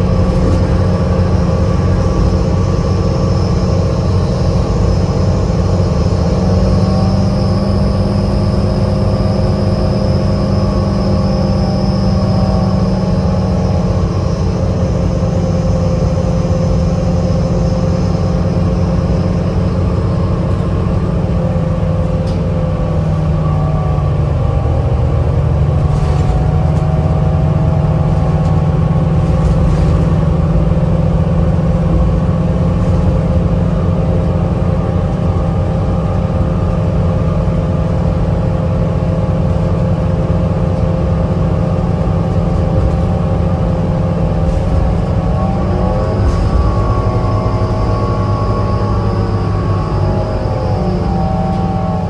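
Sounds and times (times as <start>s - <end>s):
diesel engine drone: 0.0s - 52.0s
hybrid drive whine: 0.0s - 52.0s.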